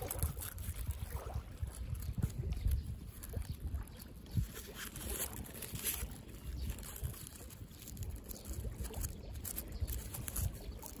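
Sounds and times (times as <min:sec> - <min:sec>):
handling crackles: 0:00.0 - 0:11.0
water lapping: 0:00.0 - 0:11.0
wind rumble on microphone: 0:00.0 - 0:11.0.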